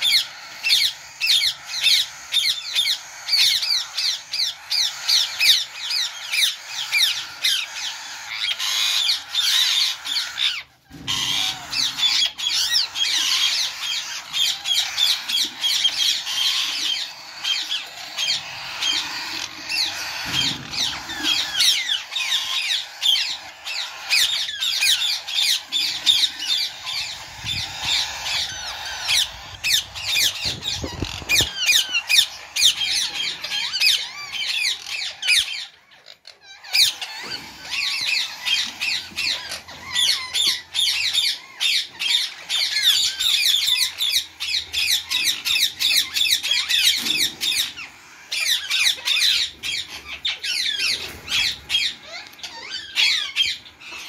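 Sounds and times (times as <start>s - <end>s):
parrots chattering and squawking: 0.0s - 54.0s.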